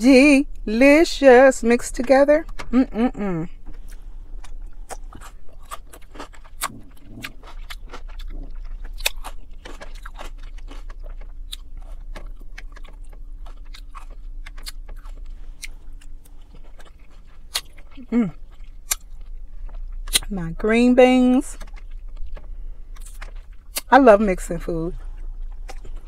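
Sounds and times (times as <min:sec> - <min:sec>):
chewing salad: 0:01.8 - 0:26.0.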